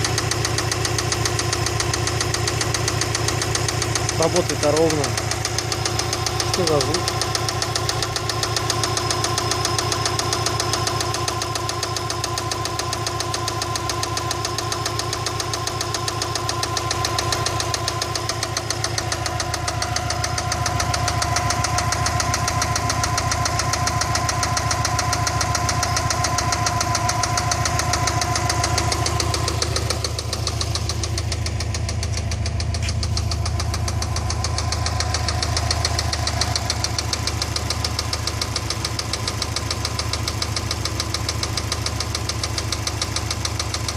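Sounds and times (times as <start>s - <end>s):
car engine running: 0.0s - 43.9s
rhythmic engine knock: 0.0s - 43.9s.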